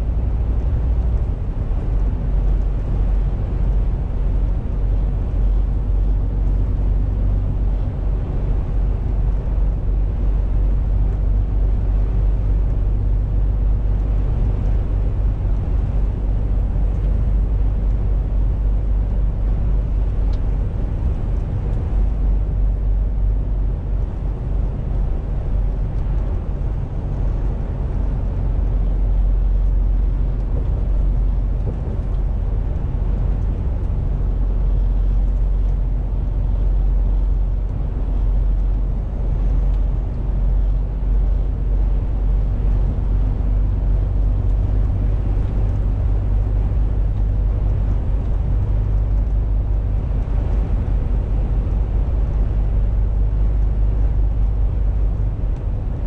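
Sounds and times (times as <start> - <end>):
diesel truck engine drone: 0.0 - 56.0
road noise: 0.0 - 56.0.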